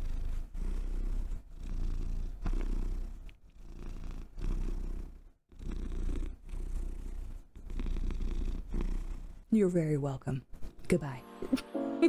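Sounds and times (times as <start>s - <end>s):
cat purring: 0.0s - 9.7s.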